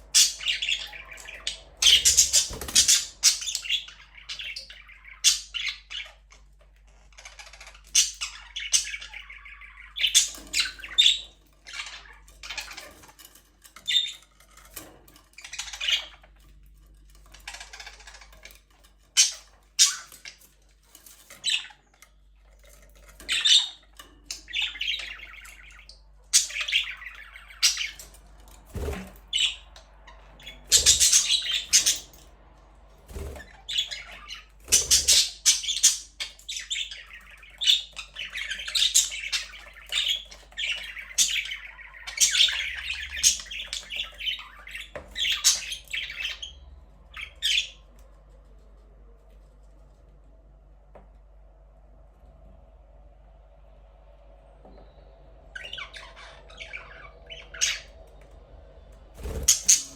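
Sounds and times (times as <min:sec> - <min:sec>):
budgerigars chattering and squawking: 0:00.0 - 0:32.2, 0:33.1 - 0:47.8, 0:55.6 - 0:58.2, 0:59.2 - 0:59.9.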